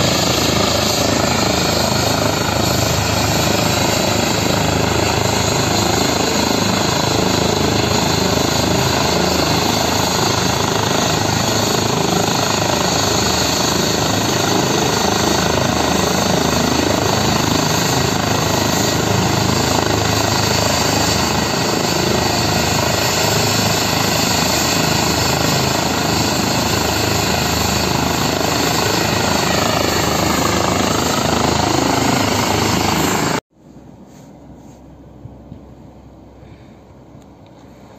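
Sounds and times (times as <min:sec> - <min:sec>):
helicopter turbine whine and rotor: 0:00.0 - 0:33.5.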